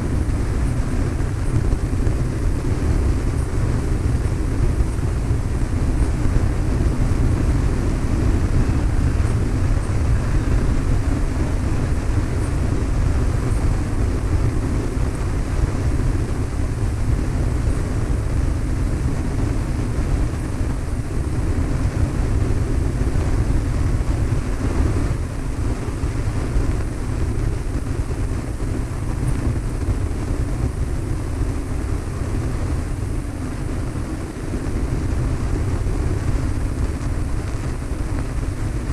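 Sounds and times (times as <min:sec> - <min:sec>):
aircraft engine droning: 0:00.0 - 0:38.9.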